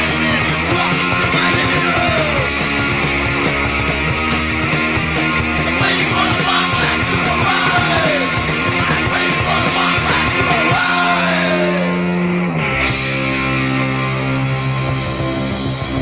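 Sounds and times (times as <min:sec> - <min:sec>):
loud punk rock band: 0:00.0 - 0:16.0.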